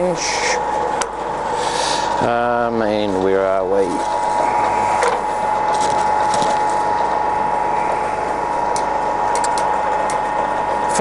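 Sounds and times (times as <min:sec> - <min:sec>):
lathe whirring and whining: 0:00.0 - 0:11.0.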